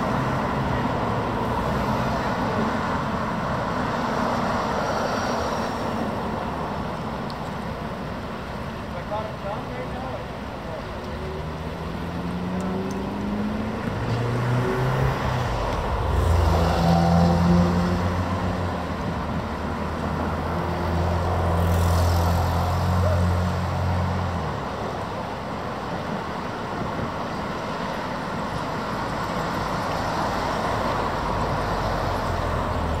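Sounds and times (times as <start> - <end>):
vehicle engines humming: 0.0 - 33.0.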